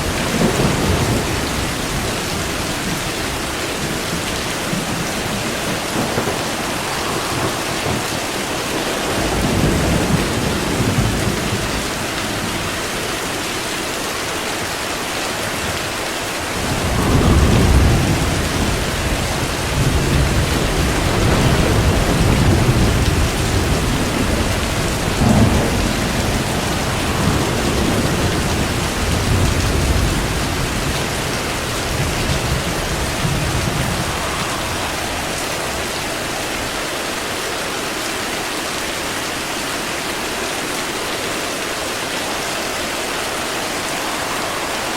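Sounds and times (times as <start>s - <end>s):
thunder rumbling: 0.0s - 37.3s, 42.2s - 44.9s
heavy rain: 0.0s - 44.9s.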